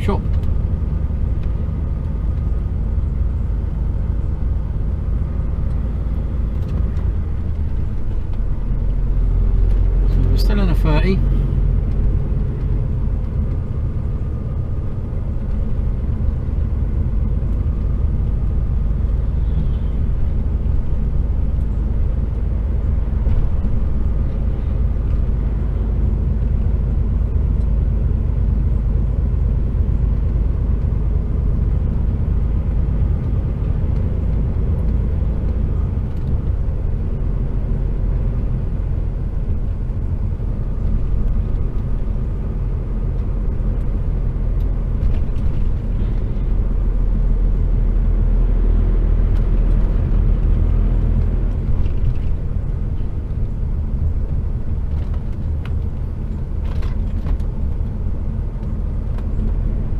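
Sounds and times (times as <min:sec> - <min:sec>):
lorry diesel engine rumbling: 0:00.0 - 0:59.9
road noise: 0:00.0 - 0:59.9.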